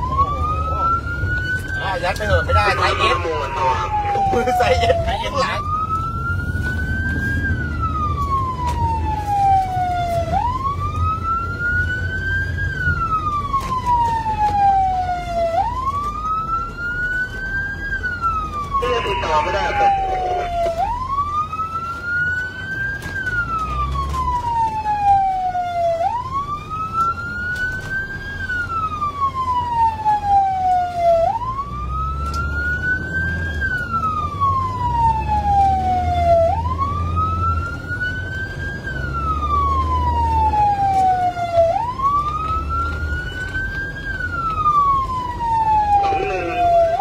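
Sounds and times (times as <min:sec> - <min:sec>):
ambulance siren wailing: 0:00.0 - 0:47.0
vehicle engine and road rumble: 0:00.0 - 0:47.0.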